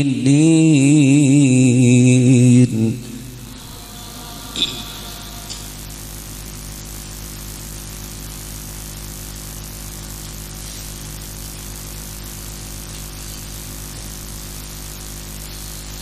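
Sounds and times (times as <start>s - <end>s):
electrical buzzing hum with hiss: 0.0s - 16.0s.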